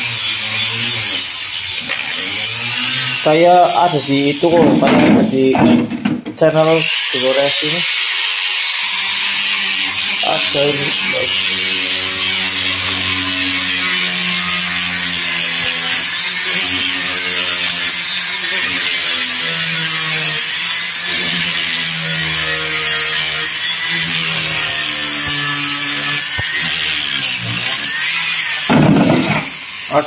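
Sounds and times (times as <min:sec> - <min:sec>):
electric rotary grinder whining: 0:00.0 - 0:05.6, 0:06.6 - 0:30.0.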